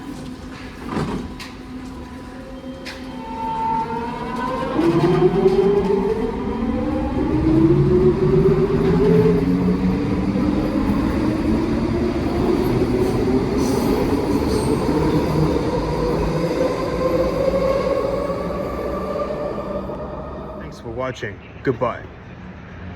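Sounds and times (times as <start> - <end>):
train rumbling: 0.0 - 22.9.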